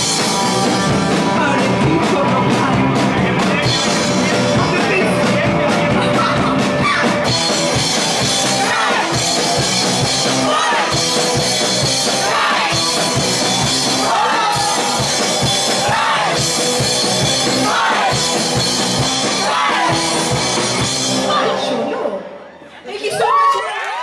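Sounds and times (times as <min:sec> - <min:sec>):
fast drum beat: 0:00.0 - 0:21.4
electric guitar: 0:00.0 - 0:21.8
bass guitar: 0:00.0 - 0:21.9.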